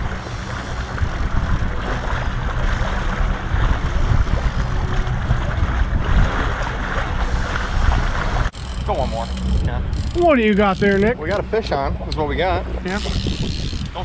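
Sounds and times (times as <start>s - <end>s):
boat engine rumbling: 0.0s - 14.0s
water noise: 0.0s - 14.0s
wind: 0.0s - 14.0s.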